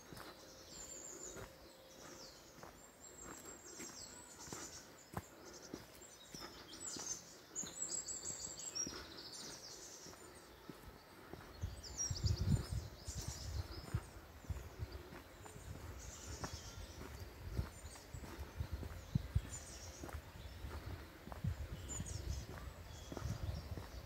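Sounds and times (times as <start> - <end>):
birds singing: 0.0 - 24.0
footsteps on dirt path: 0.0 - 24.0.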